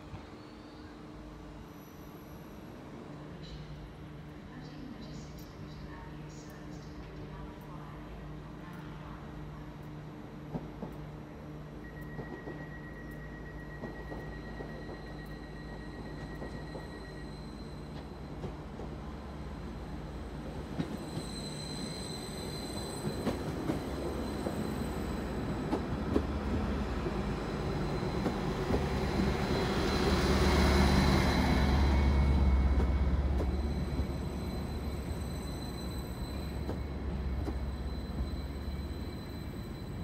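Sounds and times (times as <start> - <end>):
train running hum: 0.0 - 40.0.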